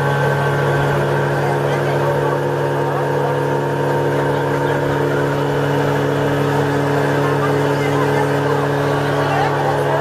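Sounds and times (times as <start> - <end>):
boat motor droning: 0.0 - 10.0.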